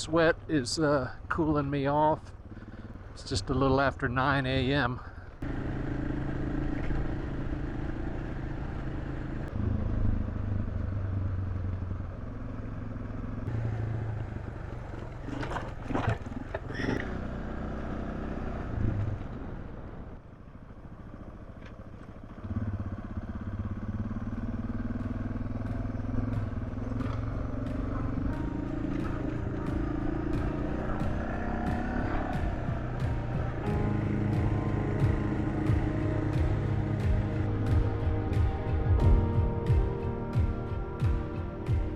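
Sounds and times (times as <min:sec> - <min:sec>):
motorcycle engine running: 0:01.2 - 0:03.6, 0:04.5 - 0:41.9.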